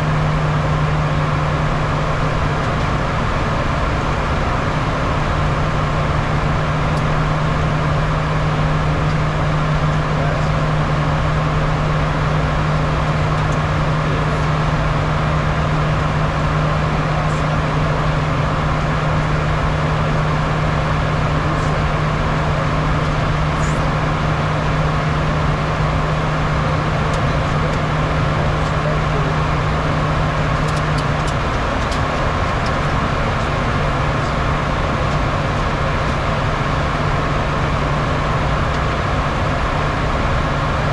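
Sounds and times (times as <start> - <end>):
jet engines droning: 0.0 - 40.9.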